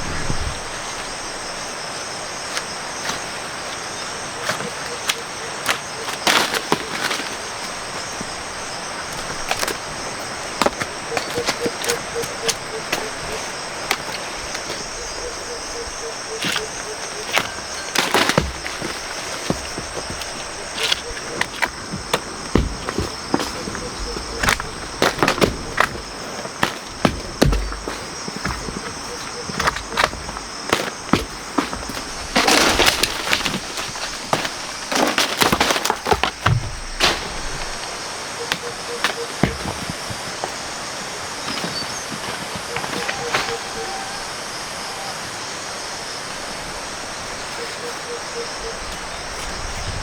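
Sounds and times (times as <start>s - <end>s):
high insect drone: 0.0s - 50.0s
rustling: 0.0s - 50.0s.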